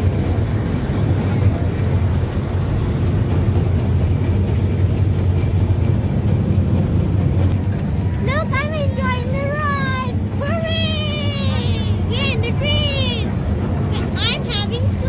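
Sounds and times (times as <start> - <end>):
toy train rumbling: 0.0 - 15.0.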